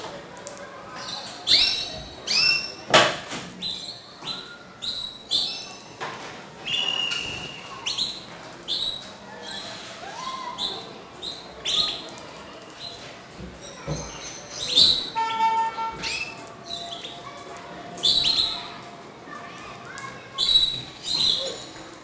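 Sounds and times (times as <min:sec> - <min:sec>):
canaries singing: 0:00.8 - 0:02.9, 0:03.6 - 0:06.0, 0:06.6 - 0:18.9, 0:20.0 - 0:22.0.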